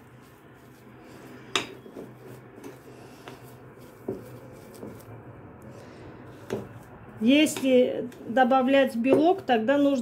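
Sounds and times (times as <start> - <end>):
fork mashing soft cheese: 0.0 - 8.3.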